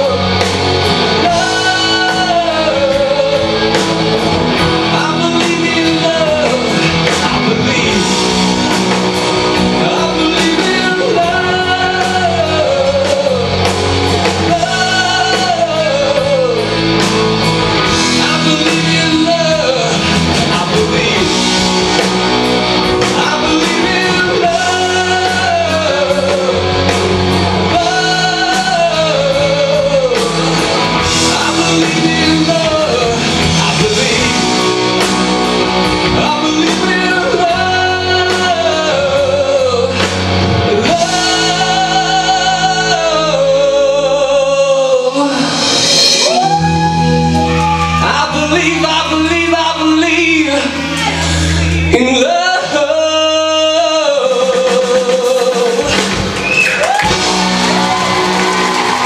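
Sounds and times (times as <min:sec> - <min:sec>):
drums: 0:00.0 - 0:59.0
guitars: 0:00.0 - 0:59.0
person singing: 0:00.0 - 0:59.0
rock band playing: 0:00.0 - 0:59.0.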